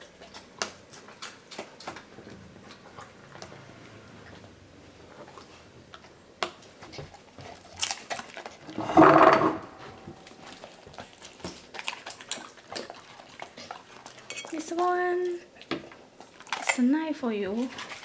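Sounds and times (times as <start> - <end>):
dog crunching vegetables: 0.0 - 3.7, 4.3 - 8.8, 9.7 - 14.6, 15.2 - 16.9, 17.5 - 18.0.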